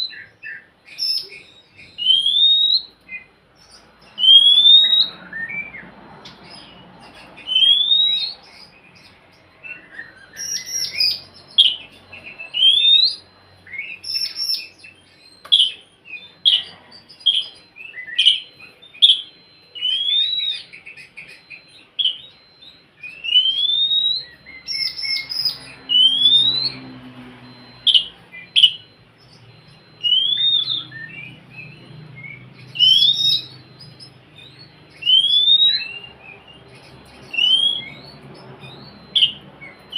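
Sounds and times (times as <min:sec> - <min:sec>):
bird chirps: 0:00.0 - 0:39.9
bird whistling song: 0:00.0 - 0:39.9.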